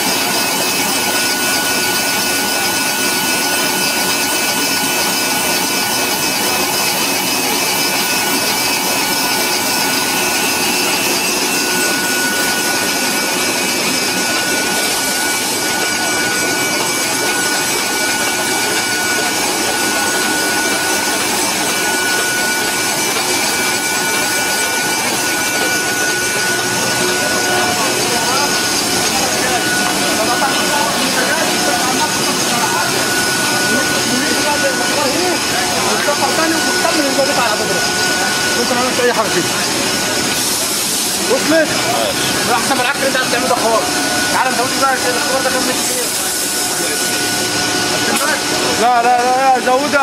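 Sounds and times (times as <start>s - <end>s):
machine whine: 0.0s - 50.0s
production line machinery: 0.0s - 50.0s.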